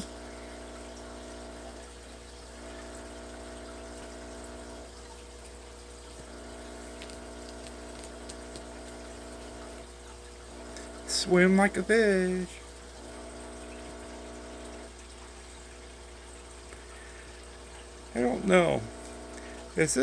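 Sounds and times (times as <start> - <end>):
filter electric hum: 0.0 - 20.0
water trickling: 0.0 - 20.0.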